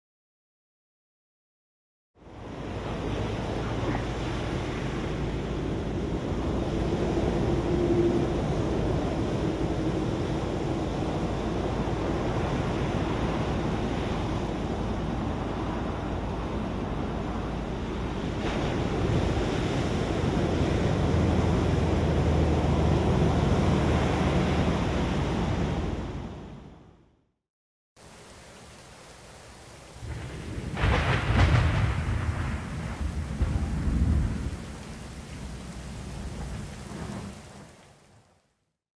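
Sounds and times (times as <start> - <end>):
ocean surf breaking: 2.3 - 26.4, 28.0 - 38.2.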